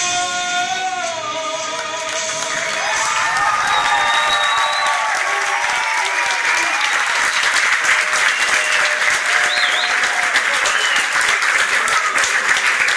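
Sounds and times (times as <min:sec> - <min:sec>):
audience applauding: 0:02.1 - 0:12.9.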